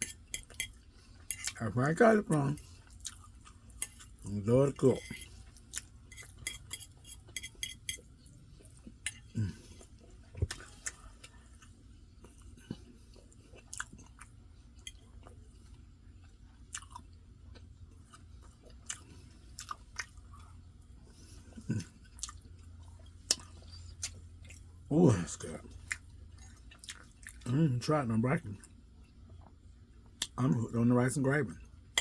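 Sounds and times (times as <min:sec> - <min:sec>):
person chewing wetly: 0:00.0 - 0:01.6, 0:02.2 - 0:27.8.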